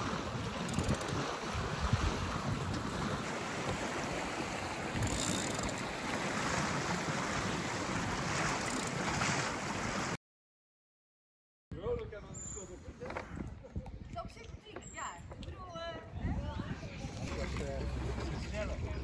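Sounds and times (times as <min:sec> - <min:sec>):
wind buffeting microphone: 0:00.0 - 0:08.5, 0:11.8 - 0:19.0
choppy water against boat hull: 0:00.0 - 0:10.2, 0:12.7 - 0:19.0.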